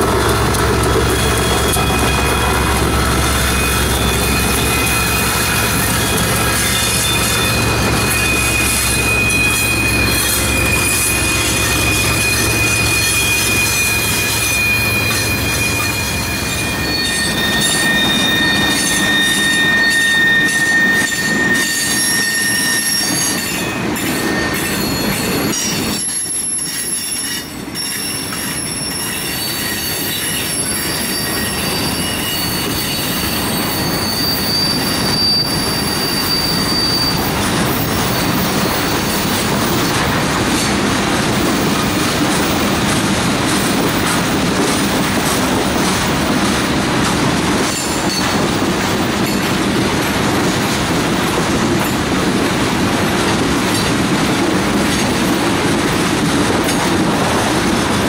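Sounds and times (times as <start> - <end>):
diesel locomotive engine hum: 0.0 - 26.6, 30.1 - 58.0
train wheels squealing on rails: 0.0 - 58.0.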